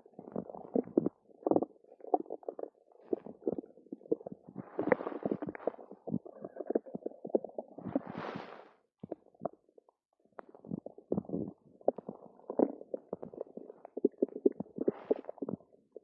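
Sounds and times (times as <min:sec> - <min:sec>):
stomach gurgling and rumbling: 0:00.0 - 0:16.0.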